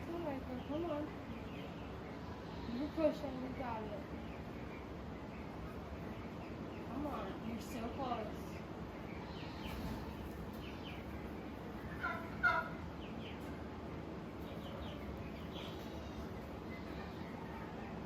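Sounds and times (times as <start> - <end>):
faint scattered chirping: 0.0 - 18.0.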